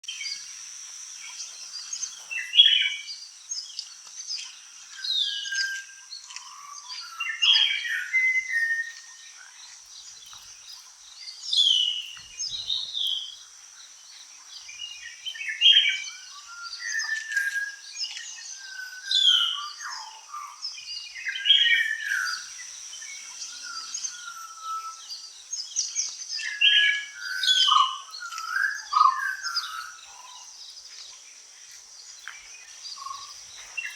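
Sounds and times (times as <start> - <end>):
high-pitched insect trill: 0.0 - 33.9
birds singing: 1.2 - 33.9.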